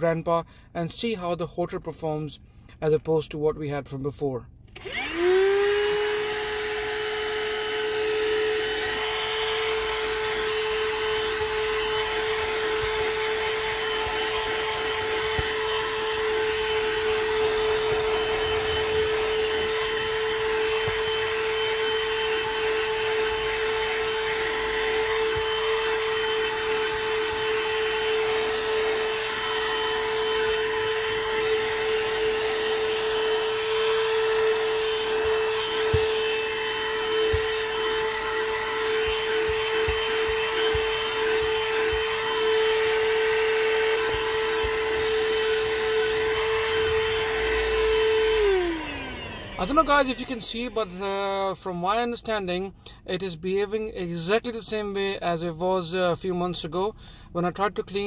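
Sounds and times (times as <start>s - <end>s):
handheld vacuum cleaner running: 4.8s - 51.4s.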